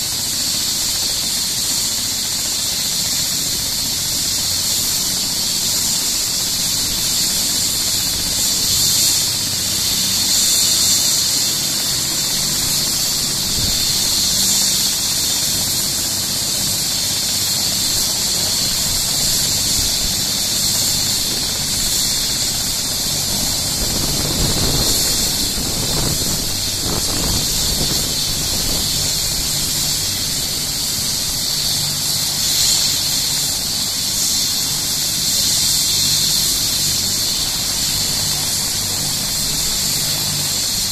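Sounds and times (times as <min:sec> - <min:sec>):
helicopter turbine whine: 0:00.0 - 0:40.9.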